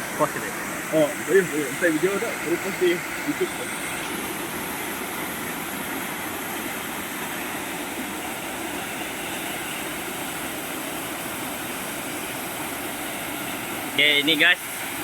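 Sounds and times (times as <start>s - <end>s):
waterfall and river rushing: 0.0s - 15.0s.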